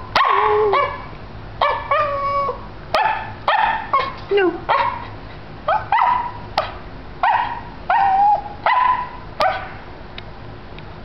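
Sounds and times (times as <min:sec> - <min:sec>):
small dog barking and yipping: 0:00.0 - 0:09.8.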